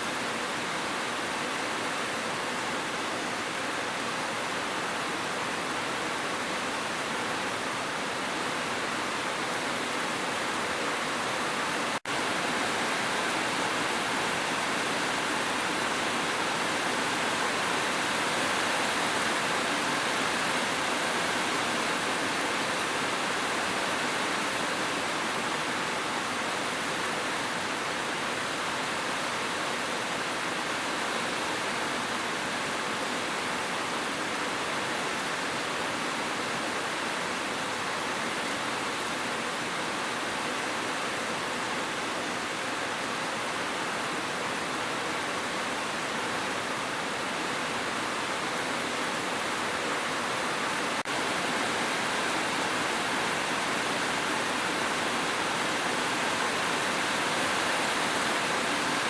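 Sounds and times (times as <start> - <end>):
rush of falling water: 0.0 - 59.0.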